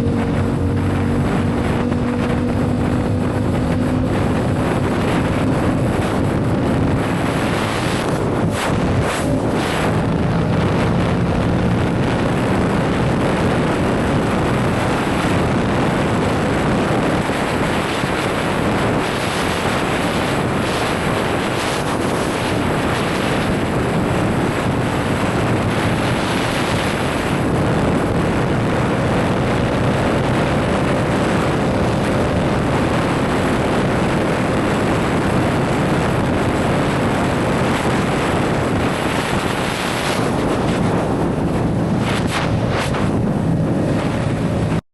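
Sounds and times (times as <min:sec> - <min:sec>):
wind buffeting microphone: 0:00.0 - 0:44.8.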